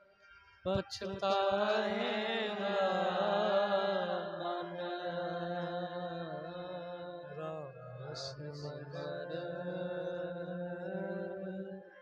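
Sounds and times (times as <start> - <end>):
man singing: 0.7 - 11.9.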